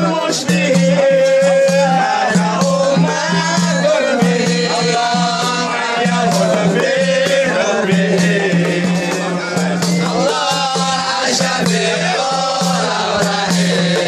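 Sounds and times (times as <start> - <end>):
frame drums beaten: 0.0 - 14.0
men chanting together: 0.0 - 14.0.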